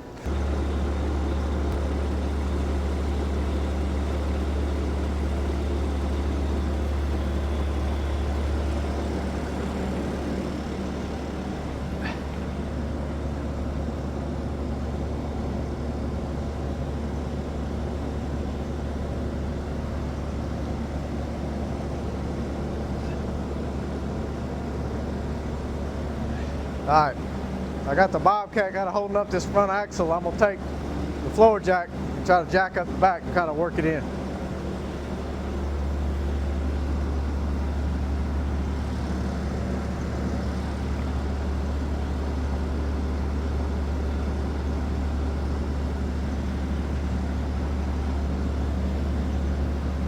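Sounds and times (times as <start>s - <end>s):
loader engine droning: 0.0s - 50.0s.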